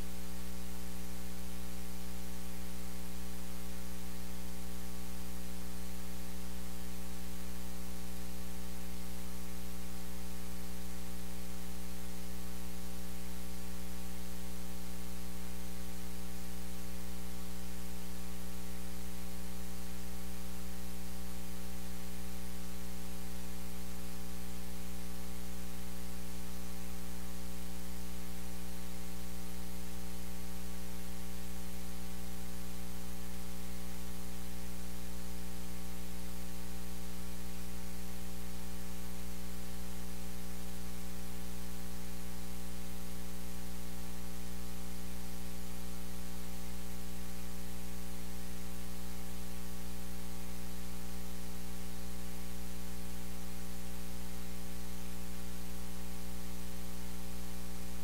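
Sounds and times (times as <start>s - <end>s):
electrical mains hum: 0.0s - 58.0s
steady hiss: 0.0s - 58.0s.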